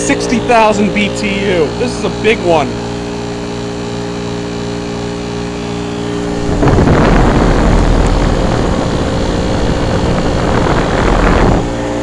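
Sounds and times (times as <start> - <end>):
fan air rushing on microphone: 0.0 - 12.0
heat pump humming: 0.0 - 12.0.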